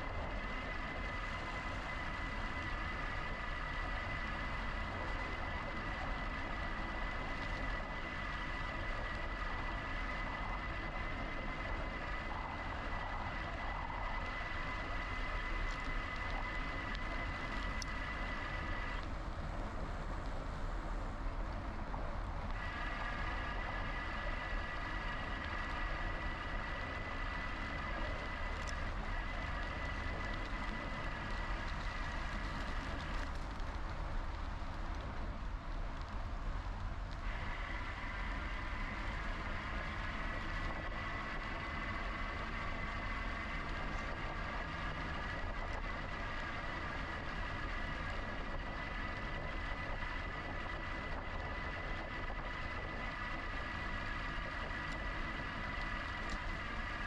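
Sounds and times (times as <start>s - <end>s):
electric bike motor whining: 0.0s - 20.2s, 22.3s - 35.4s, 36.2s - 57.0s
wind and tyre noise: 0.0s - 57.0s.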